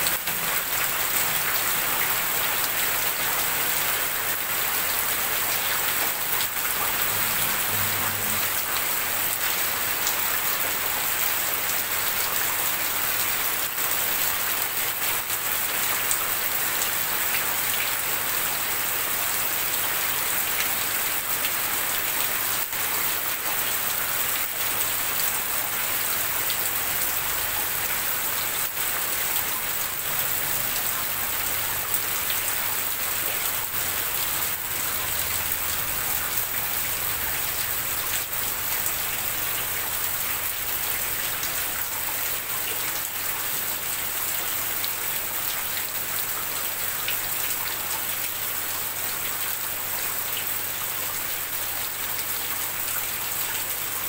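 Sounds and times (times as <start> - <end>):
rain on a metal roof: 0.0 - 54.0.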